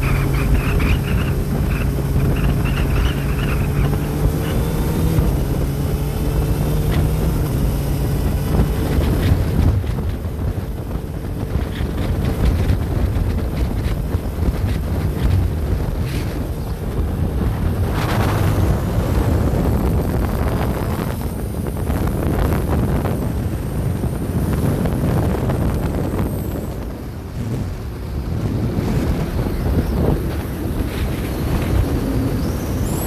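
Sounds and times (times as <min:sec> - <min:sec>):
motorcycle engine: 0:00.0 - 0:33.0
road noise: 0:00.0 - 0:33.0
wind buffeting microphone: 0:00.0 - 0:33.0.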